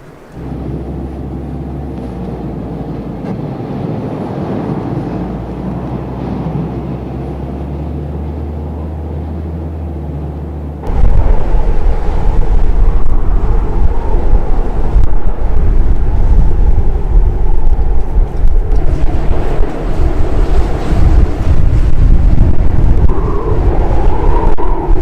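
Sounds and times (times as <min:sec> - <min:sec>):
blizzard wind gusting on microphone: 0:00.0 - 0:25.0.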